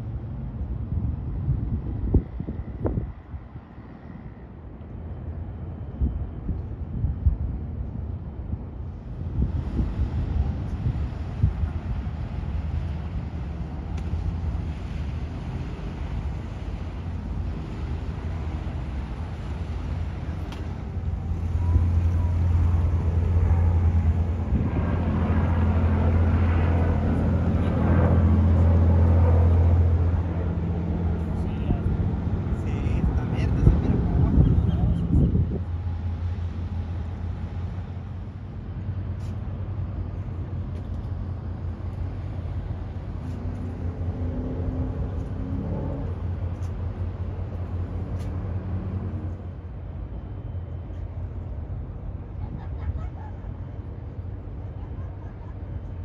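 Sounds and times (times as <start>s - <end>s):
low engine drone: 0.0s - 56.0s.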